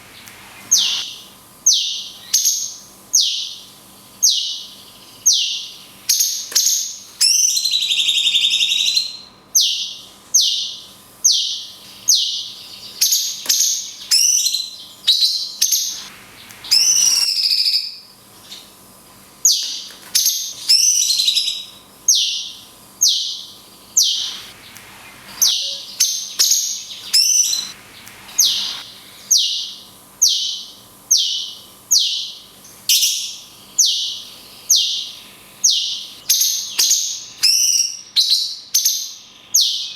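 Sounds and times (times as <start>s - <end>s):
songbird singing whistled notes: 0.0s - 18.7s, 19.4s - 39.9s.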